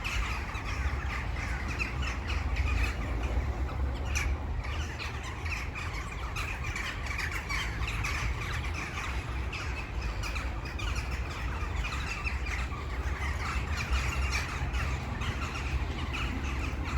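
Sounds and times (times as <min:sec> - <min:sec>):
flock of birds calling: 0:00.0 - 0:16.9.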